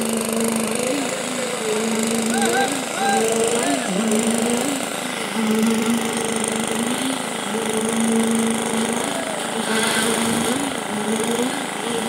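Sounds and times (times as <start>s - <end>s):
concrete vibrator humming: 0.0s - 12.0s.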